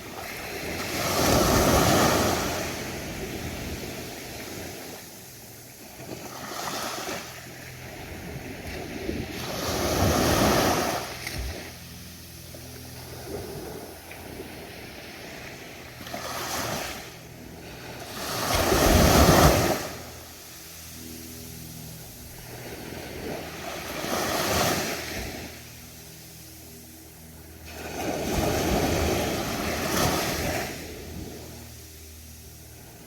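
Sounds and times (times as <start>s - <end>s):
ocean waves breaking on sand: 0.0s - 33.0s.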